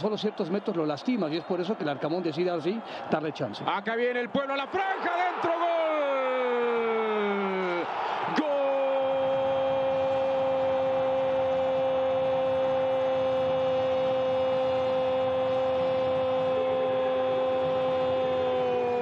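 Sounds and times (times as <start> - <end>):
faint stadium crowd noise: 0.0 - 19.0.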